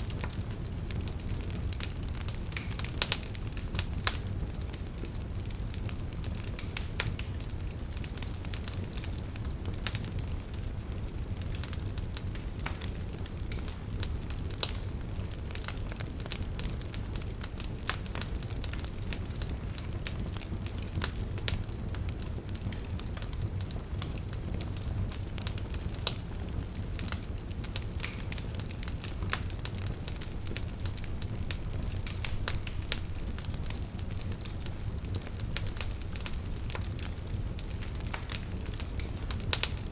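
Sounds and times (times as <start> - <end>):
burning logs crackling and popping: 0.0 - 39.9
fire flames rumbling: 0.0 - 39.9.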